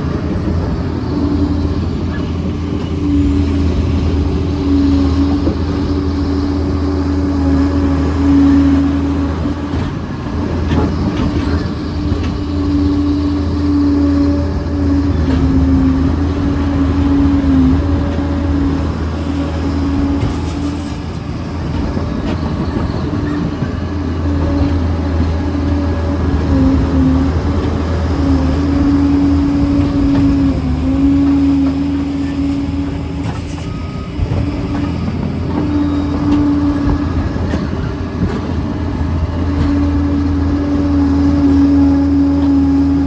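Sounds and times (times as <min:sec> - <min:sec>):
dozer diesel engine running: 0:00.0 - 0:43.0.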